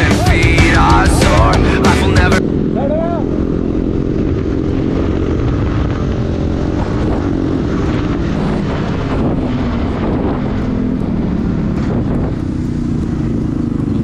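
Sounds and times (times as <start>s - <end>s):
wind rushing: 0.0s - 13.8s
motorcycle engine cruising: 0.0s - 14.0s
road noise: 0.0s - 14.0s.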